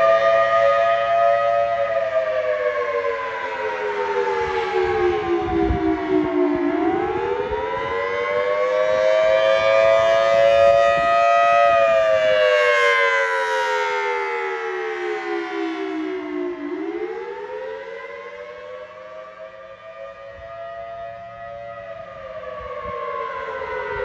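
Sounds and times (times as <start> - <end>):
tornado siren wailing: 0.0 - 24.0.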